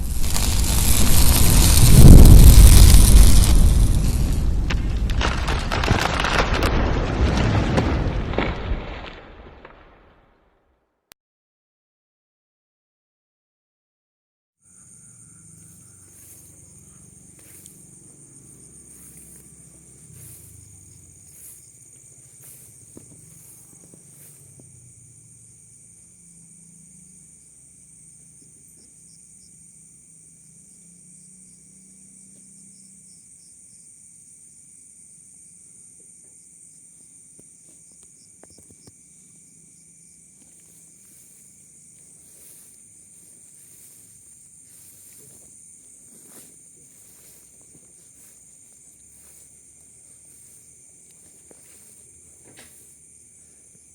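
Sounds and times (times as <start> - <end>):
chorus of forest insects: 0.0 - 8.7, 14.6 - 53.9.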